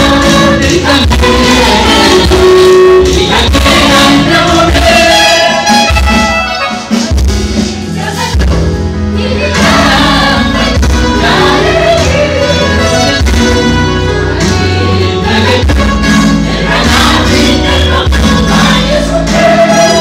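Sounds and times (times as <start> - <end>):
choir singing gospel song: 0.0 - 6.8, 7.6 - 20.0
amplified accompaniment with bass: 0.0 - 20.0.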